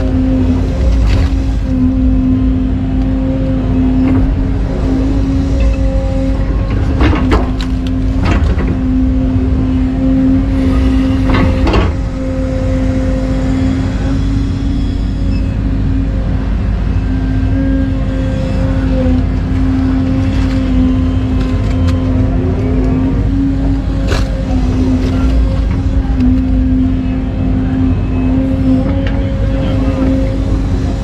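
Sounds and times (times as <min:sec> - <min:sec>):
diesel engine whining under load: 0:00.0 - 0:31.0.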